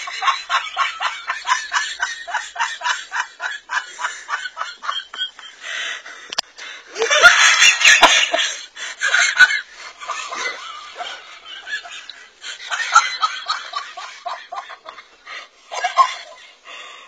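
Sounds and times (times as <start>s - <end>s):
hearty laughing: 0.0s - 6.1s, 6.9s - 16.7s.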